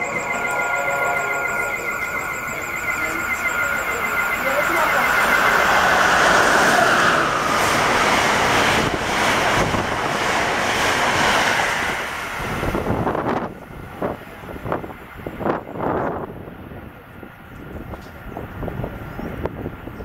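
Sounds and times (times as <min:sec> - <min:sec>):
train passing at high speed: 0:00.0 - 0:20.0
wind buffeting microphone: 0:02.1 - 0:20.0.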